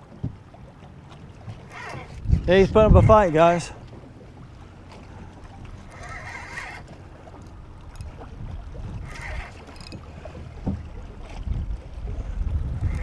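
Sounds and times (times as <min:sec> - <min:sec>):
wind rumbling on microphone: 0:01.2 - 0:13.0.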